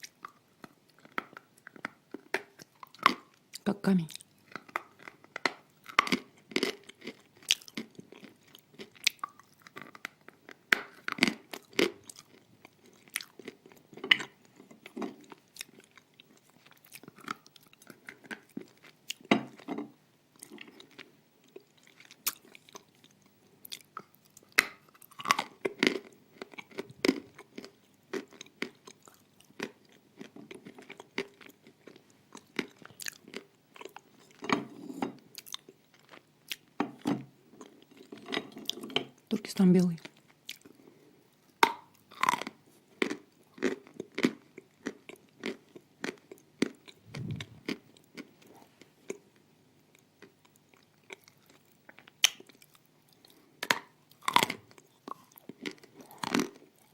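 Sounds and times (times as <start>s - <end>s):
crunching and chewing: 0.0s - 39.3s, 40.0s - 56.9s.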